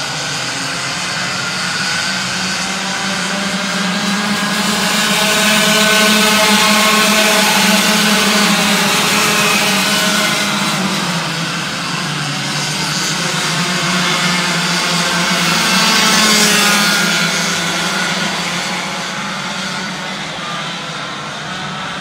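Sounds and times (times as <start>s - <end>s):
racing kart engines: 0.0s - 22.0s.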